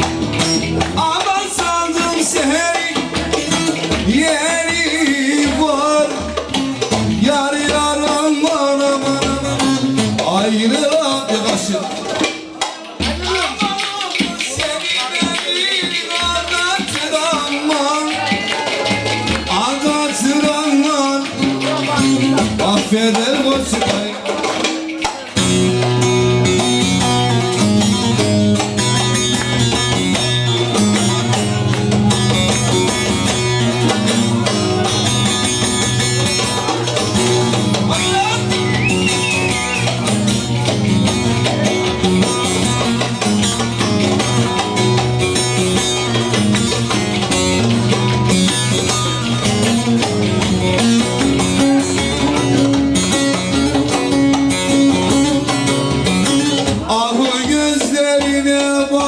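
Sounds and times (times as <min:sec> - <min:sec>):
instrumental folk music: 0:00.0 - 0:59.0
plucked string melody: 0:00.0 - 0:59.0.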